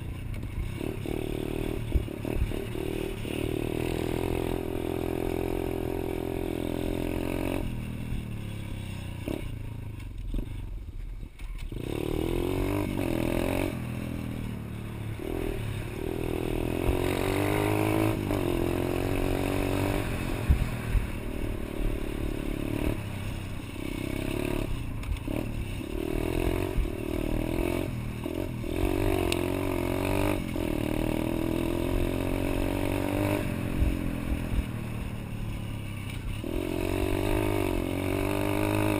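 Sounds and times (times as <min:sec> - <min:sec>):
small motorbike engine revving: 0:00.0 - 0:10.9, 0:11.6 - 0:38.9.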